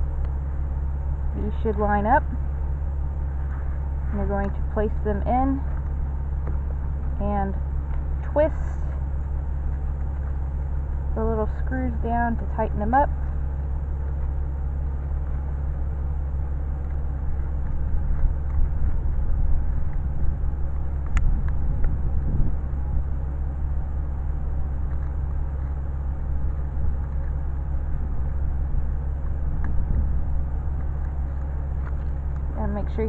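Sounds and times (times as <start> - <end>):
low mechanical rumble: 0.0 - 33.0.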